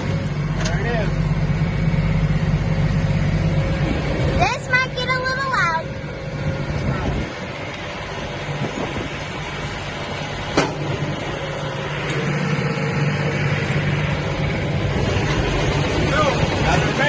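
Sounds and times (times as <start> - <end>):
tractor and hay baler running: 0.0 - 17.0.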